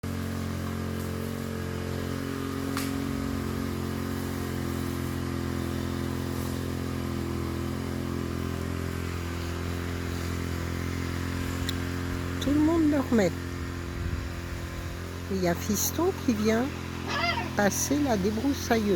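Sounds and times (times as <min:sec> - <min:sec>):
brushcutter engine running: 0:00.0 - 0:18.9.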